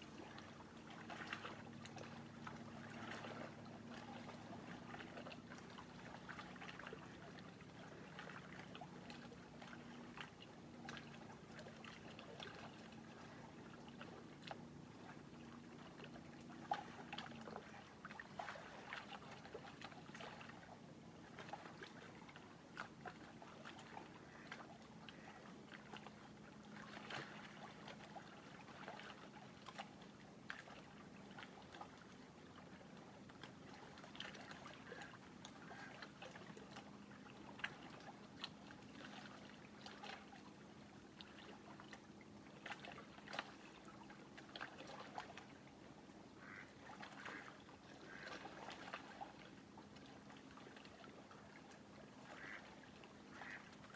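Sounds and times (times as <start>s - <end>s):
faint low hum: 0.0s - 53.9s
small waves lapping: 0.0s - 53.9s
water splashing at shore: 0.0s - 53.9s.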